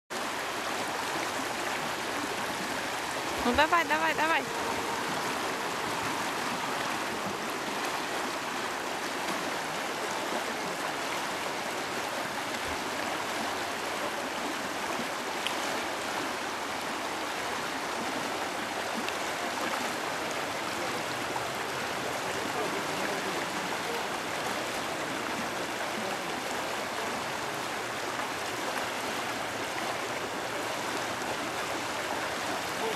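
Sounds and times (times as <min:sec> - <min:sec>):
river rushing over rocks: 0:00.1 - 0:32.9.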